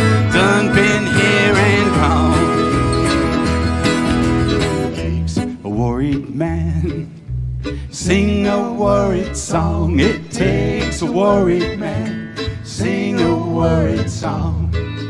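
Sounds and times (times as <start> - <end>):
person singing: 0.0 - 7.1, 7.9 - 14.8
acoustic string band playing: 0.0 - 15.0.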